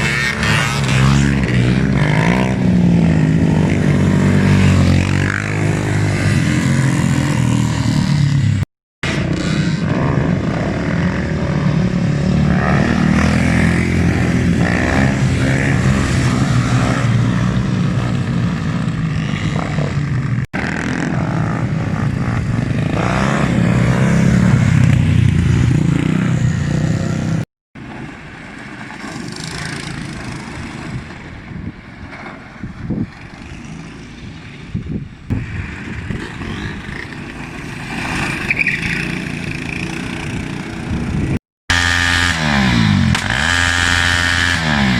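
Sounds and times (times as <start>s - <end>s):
motorbike engines revving: 0.0s - 44.9s.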